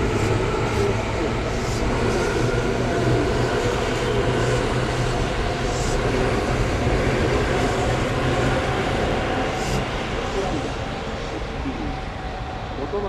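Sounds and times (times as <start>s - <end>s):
electric train running hum: 0.0s - 13.0s.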